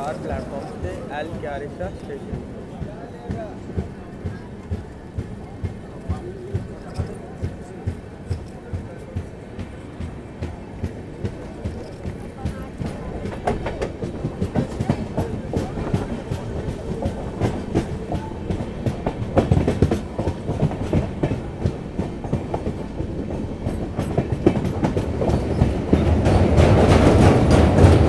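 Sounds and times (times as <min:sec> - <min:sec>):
low train rumble: 0:00.0 - 0:28.0
train wheels clacking over rail joints: 0:00.0 - 0:28.0.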